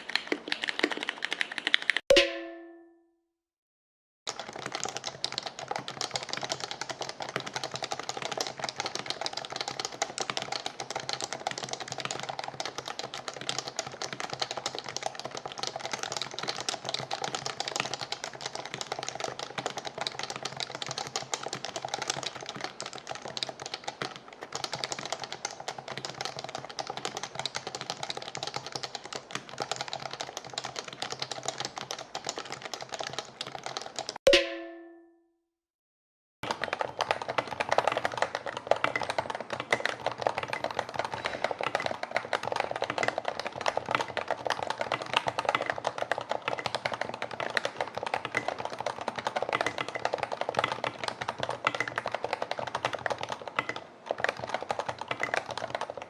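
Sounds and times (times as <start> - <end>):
fast typing on a keyboard: 0.0 - 2.1, 4.3 - 34.2, 36.4 - 56.0.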